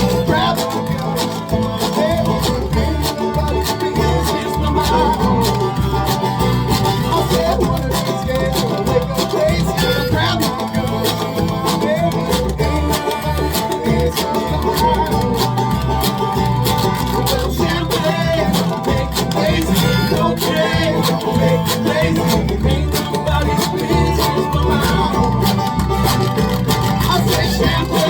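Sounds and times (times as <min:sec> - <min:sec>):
folk string band playing: 0:00.0 - 0:28.0
picked banjo: 0:00.0 - 0:28.0
spoons clicking a beat: 0:00.0 - 0:28.0.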